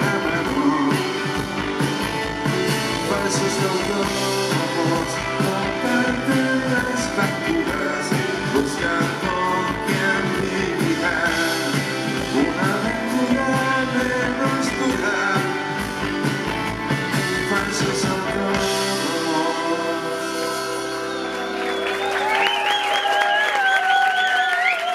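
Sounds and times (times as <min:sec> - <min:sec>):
person singing: 0:00.0 - 0:16.2, 0:17.1 - 0:21.4
drums: 0:00.0 - 0:24.9
electric guitars: 0:00.0 - 0:24.9.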